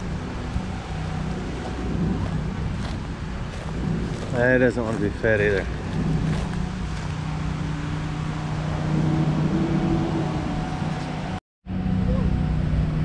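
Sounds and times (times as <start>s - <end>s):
higher rising and falling tone: 0.0s - 12.8s
vehicle engine droning: 0.0s - 13.0s.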